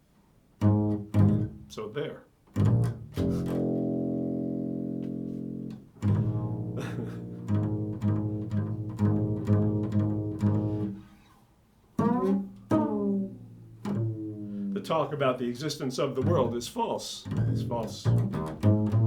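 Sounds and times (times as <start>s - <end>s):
low plucked string instrument: 0.6s - 1.8s, 2.6s - 11.2s, 12.0s - 15.2s, 16.2s - 19.0s.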